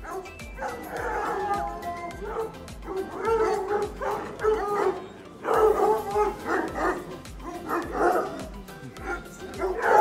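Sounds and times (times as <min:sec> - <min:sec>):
hounds baying and yelping: 0:00.0 - 0:10.0.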